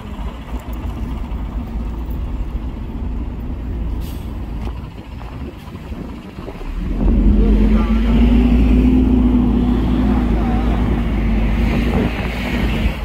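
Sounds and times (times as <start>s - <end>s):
large vehicle engine rumbling: 0.0s - 13.0s.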